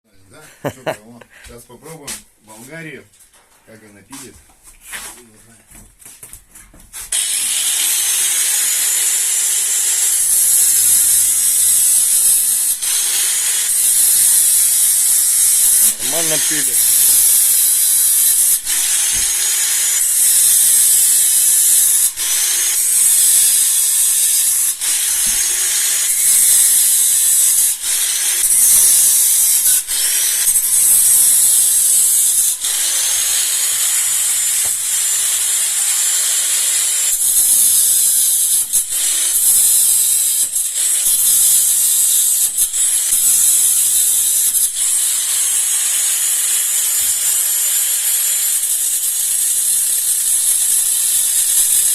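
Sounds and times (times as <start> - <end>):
angle grinder whine: 7.1 - 51.9.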